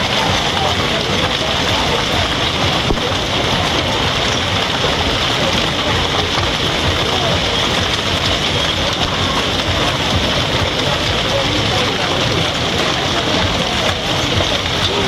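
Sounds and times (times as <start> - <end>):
hail pelting pool water: 0.0 - 15.0.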